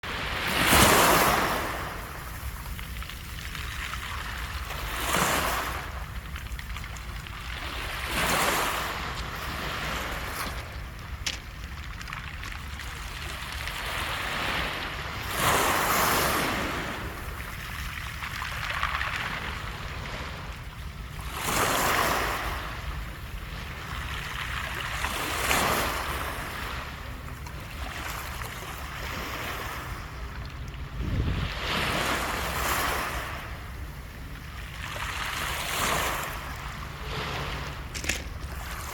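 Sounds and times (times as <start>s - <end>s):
waves on a pebble beach: 0.0s - 38.9s.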